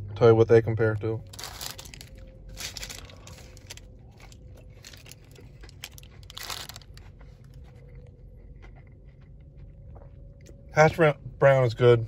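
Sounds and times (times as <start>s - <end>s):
crunching and chewing food: 0.0s - 11.4s.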